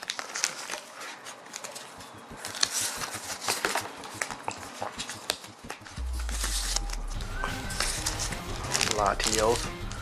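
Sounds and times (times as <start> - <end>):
trading cards clicking and rustling: 0.0 - 10.0.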